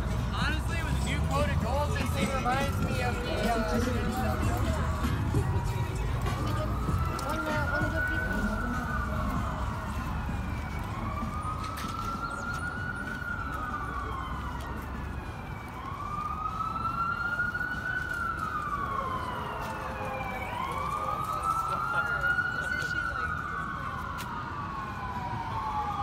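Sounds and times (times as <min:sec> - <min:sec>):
siren wailing: 0:00.1 - 0:26.0.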